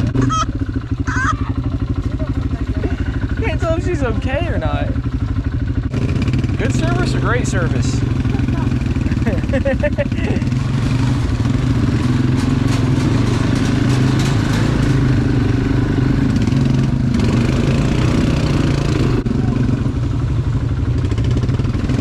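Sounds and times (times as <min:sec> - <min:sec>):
quad bike engine drone: 0:00.0 - 0:22.0.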